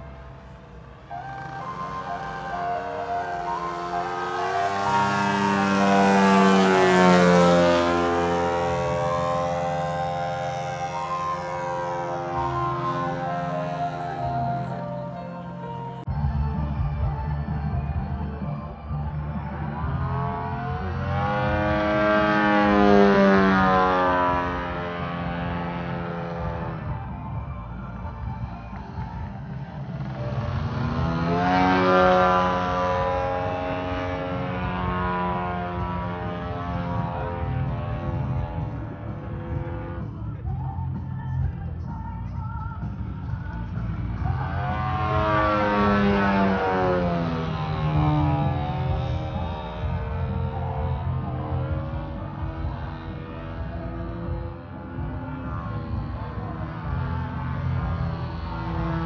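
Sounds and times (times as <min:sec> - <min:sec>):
model plane motor whine passing: 0:00.0 - 0:16.0, 0:20.4 - 0:27.5, 0:28.7 - 0:40.0, 0:44.4 - 0:59.0
music with long held notes: 0:00.0 - 0:59.0.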